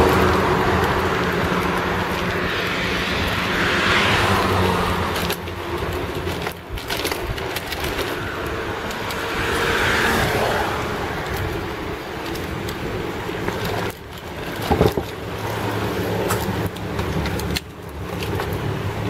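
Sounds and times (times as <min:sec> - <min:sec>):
cars passing: 0:00.0 - 0:19.0
wind rumble: 0:00.0 - 0:19.0.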